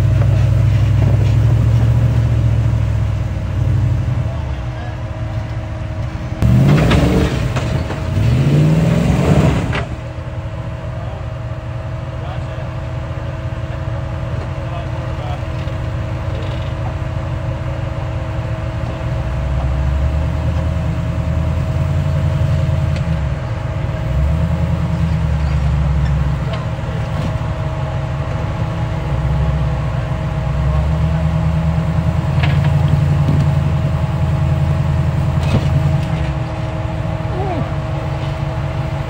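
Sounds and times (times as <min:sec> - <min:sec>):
car engine running at low revs: 0:00.0 - 0:39.0.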